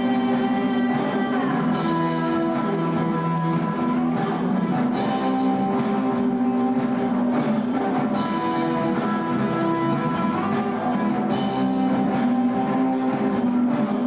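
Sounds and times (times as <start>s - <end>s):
guitar-led band music: 0.0s - 14.0s.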